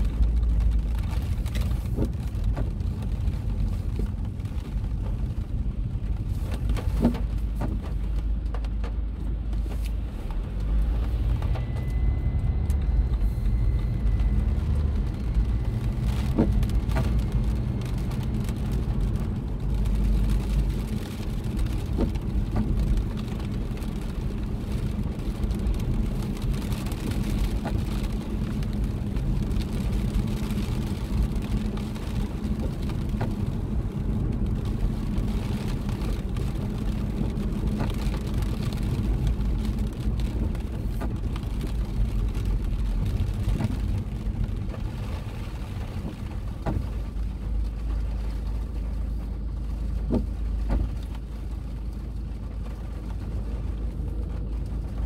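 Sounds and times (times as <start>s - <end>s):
car driving on wet road: 0.0s - 55.0s.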